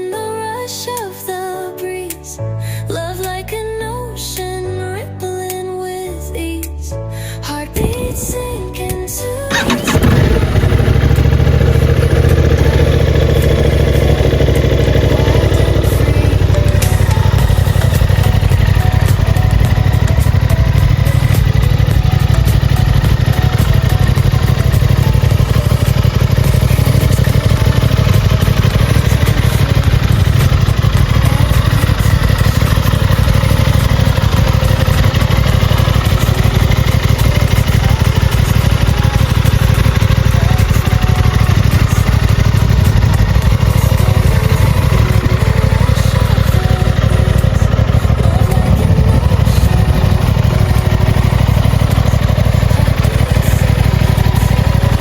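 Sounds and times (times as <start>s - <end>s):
motorcycle engine running steadily: 7.4s - 55.0s.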